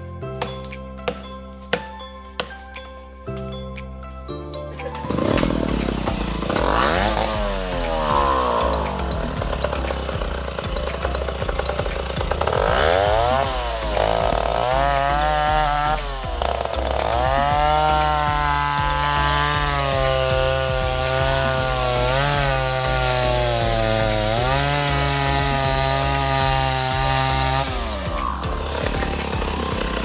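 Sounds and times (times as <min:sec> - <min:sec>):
chainsaw cutting wood: 0:00.3 - 0:02.8, 0:04.7 - 0:30.0.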